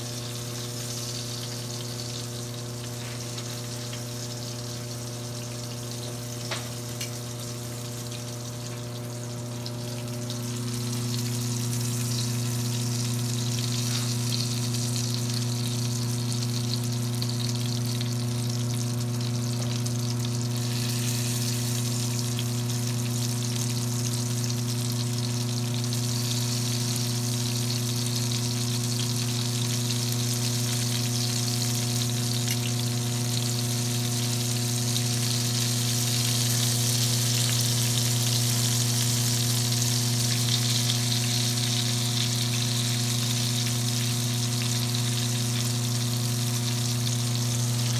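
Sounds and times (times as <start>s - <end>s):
food sizzling in hot oil: 0.0s - 47.9s
steady low hum: 0.0s - 47.9s.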